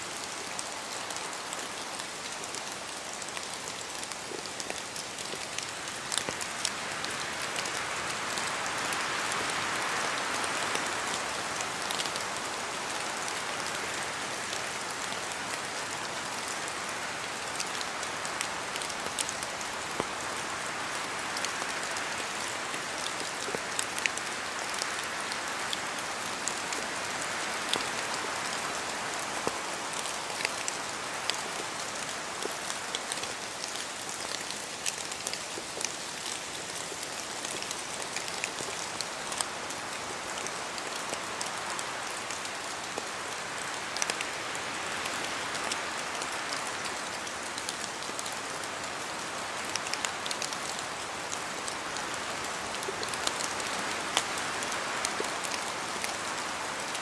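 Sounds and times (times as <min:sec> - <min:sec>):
rain falling through trees: 0:00.0 - 0:57.0.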